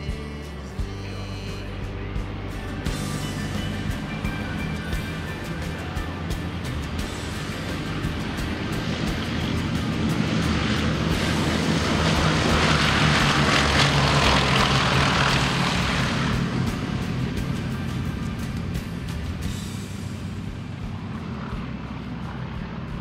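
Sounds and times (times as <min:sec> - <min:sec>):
propeller plane engines droning: 0:00.0 - 0:23.0.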